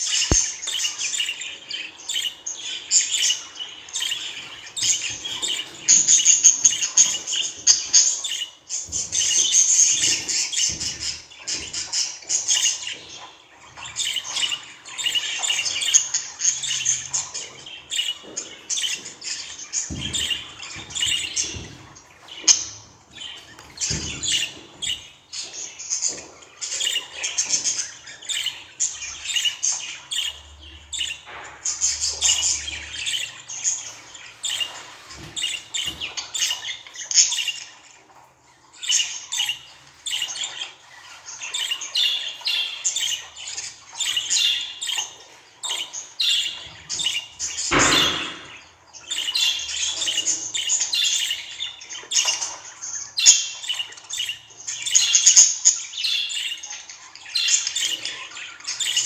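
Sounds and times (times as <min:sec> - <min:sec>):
budgerigars chattering: 0:00.0 - 0:37.8, 0:38.7 - 0:59.0.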